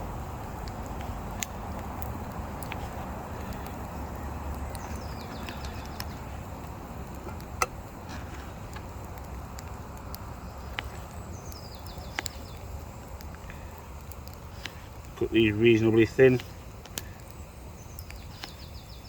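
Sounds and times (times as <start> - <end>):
breeze rumble: 0.0 - 19.0
sharp clicks and snaps: 0.6 - 2.8, 3.4 - 8.0, 8.7 - 15.2, 16.4 - 18.7
songbird singing: 2.6 - 7.9, 8.7 - 19.0.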